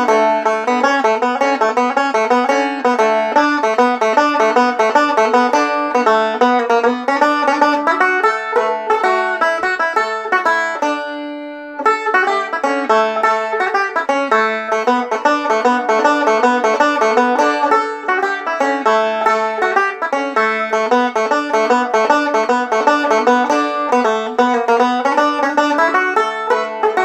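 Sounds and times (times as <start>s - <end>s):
banjo picking: 0.0s - 27.0s.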